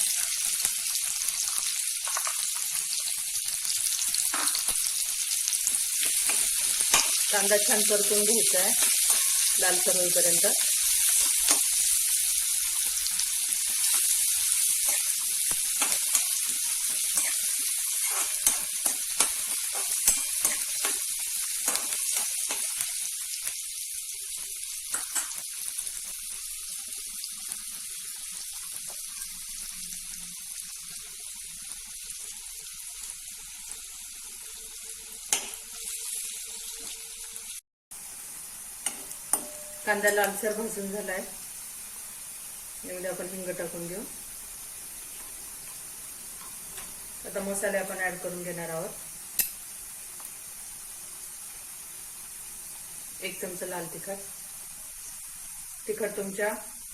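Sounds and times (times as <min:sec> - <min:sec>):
onion sizzling in oil: 0:00.0 - 0:56.9.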